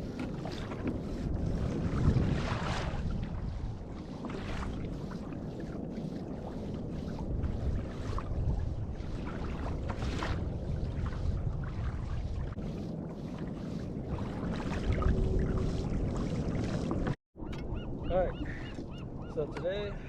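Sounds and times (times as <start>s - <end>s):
faint water splashes: 0.0s - 17.2s
wind buffeting microphone: 0.0s - 20.0s.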